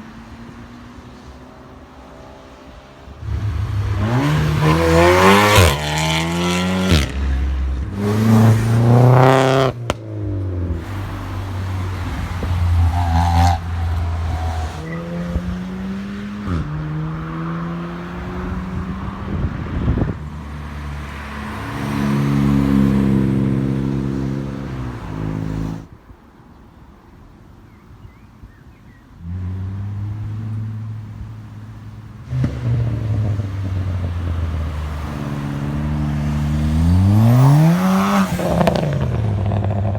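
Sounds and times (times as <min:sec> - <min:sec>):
cars accelerating and revving: 0:00.0 - 0:25.9, 0:29.2 - 0:39.9
cars driving by gently: 0:00.0 - 0:39.9.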